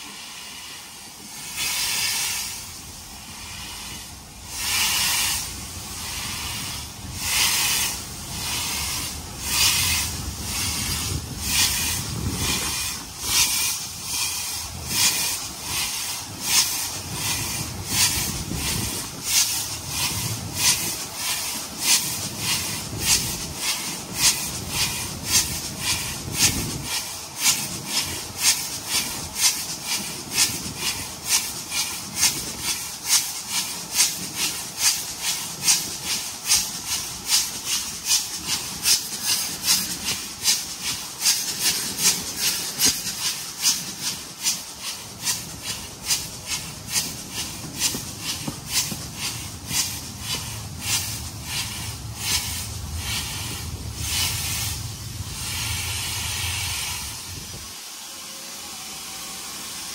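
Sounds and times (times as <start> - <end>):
steam hissing: 0.0 - 59.9
steam locomotive exhaust beats: 0.0 - 59.9.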